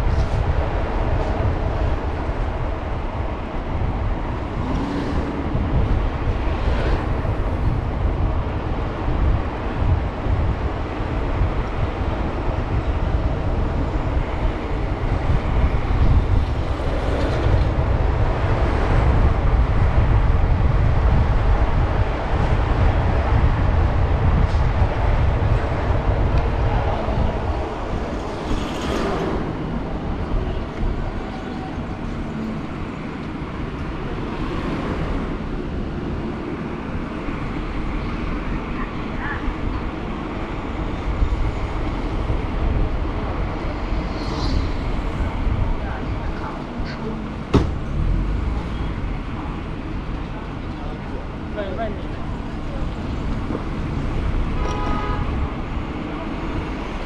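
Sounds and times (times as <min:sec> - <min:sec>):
road noise: 0:00.0 - 0:57.0
wind rumble: 0:00.0 - 0:57.0.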